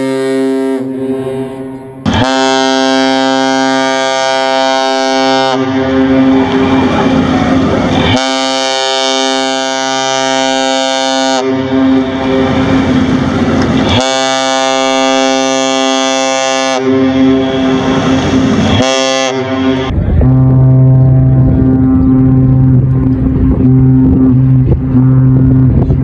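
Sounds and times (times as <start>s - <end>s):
deep ship's horn blast: 0.0s - 26.0s
rushing noise: 0.0s - 26.0s
another ship's horn: 2.1s - 13.1s, 13.8s - 26.0s.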